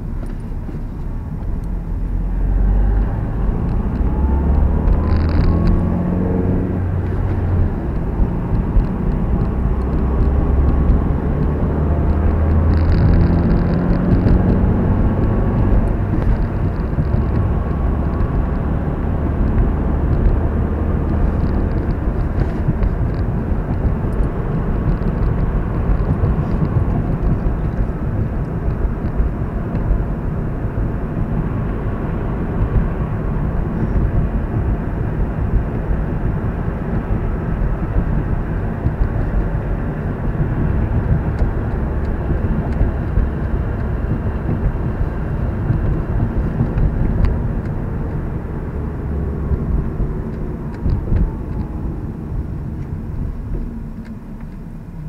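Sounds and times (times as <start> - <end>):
car engine accelerating: 0.0 - 55.0
road noise inside car: 0.0 - 55.0.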